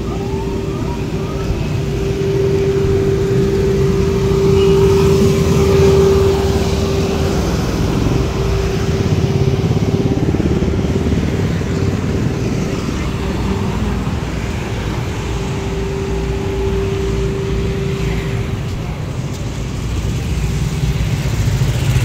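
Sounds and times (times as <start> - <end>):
electric blower humming: 0.0 - 18.7.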